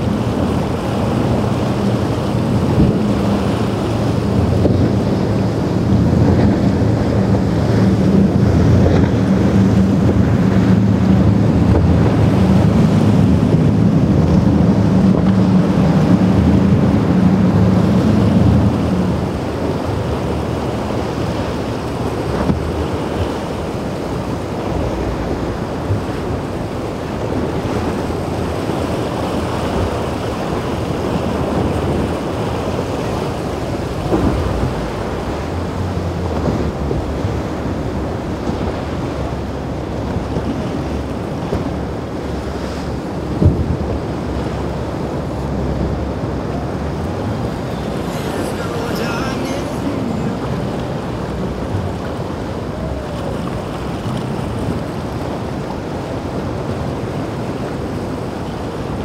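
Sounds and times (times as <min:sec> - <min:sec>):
boat engines droning: 0:00.0 - 0:59.0
rushing water: 0:00.0 - 0:59.0
wind buffeting microphone: 0:00.0 - 0:59.0.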